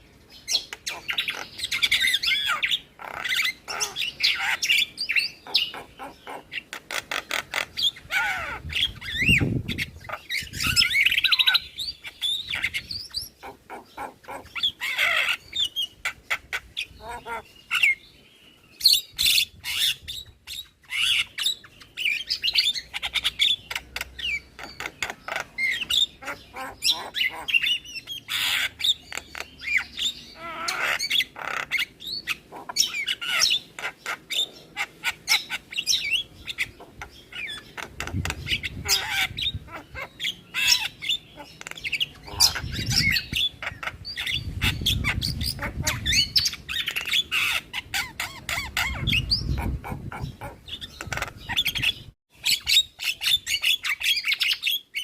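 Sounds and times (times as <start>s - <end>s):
bird chattering and whistling: 0.4s - 18.0s, 18.8s - 55.0s.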